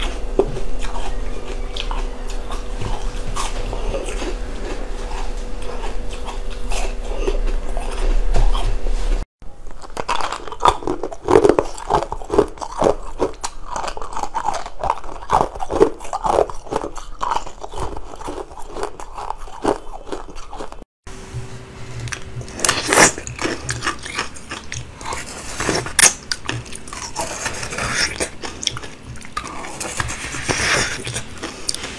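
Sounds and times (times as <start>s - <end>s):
chewing crunchy ice: 0.0s - 8.8s, 9.5s - 20.9s, 22.1s - 31.9s.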